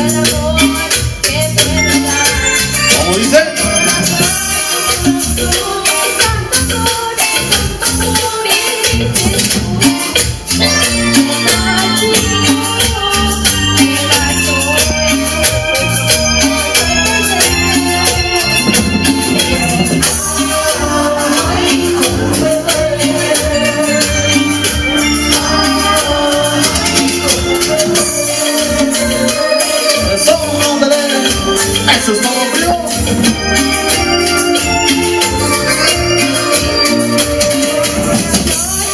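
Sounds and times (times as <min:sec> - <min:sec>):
bass: 0:00.0 - 0:38.9
electronic keyboard: 0:00.0 - 0:38.9
shaker rhythm: 0:00.0 - 0:38.9.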